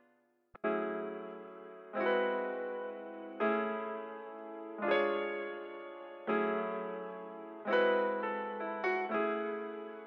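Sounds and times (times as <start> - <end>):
soft electric piano chords: 0.6 - 10.0.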